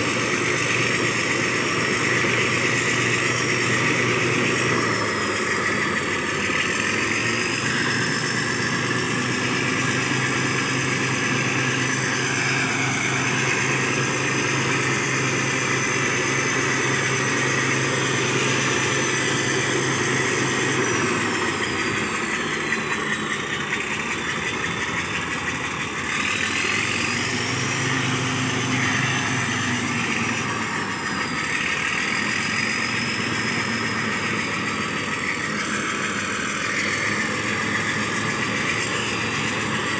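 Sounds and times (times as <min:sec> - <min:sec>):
diesel engine running: 0:00.0 - 0:39.9
high turbo whistle: 0:00.0 - 0:39.9.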